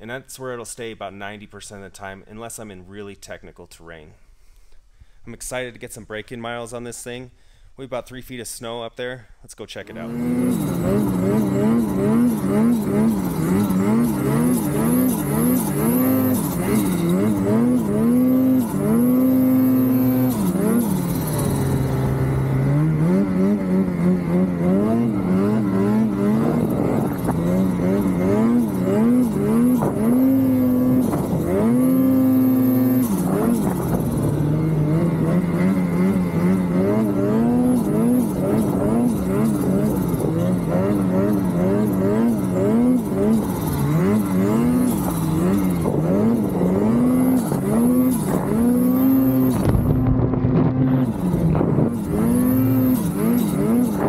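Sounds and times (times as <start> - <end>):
snowmobile engine revving: 9.8 - 54.0.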